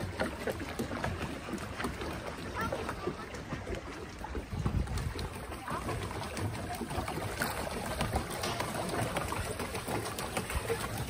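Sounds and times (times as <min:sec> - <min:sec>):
paddle wheel churning water: 0:00.0 - 0:11.0.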